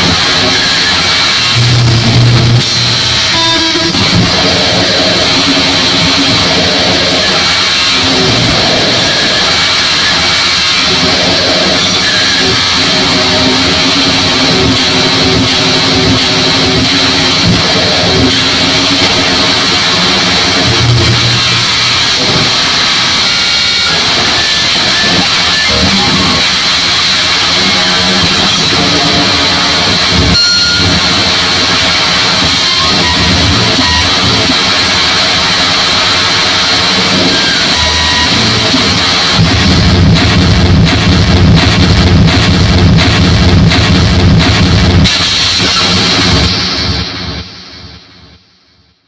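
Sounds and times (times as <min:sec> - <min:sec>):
bass-heavy noise block: 0:00.0 - 0:49.0
harsh distorted noise music: 0:00.0 - 0:49.0.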